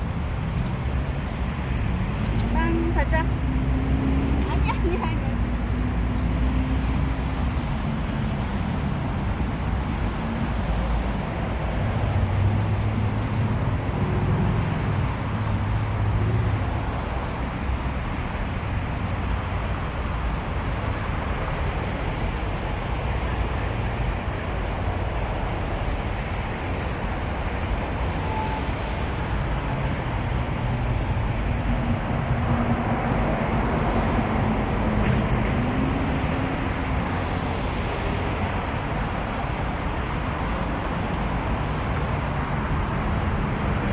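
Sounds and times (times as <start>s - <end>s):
road traffic rumble: 0.0s - 43.9s.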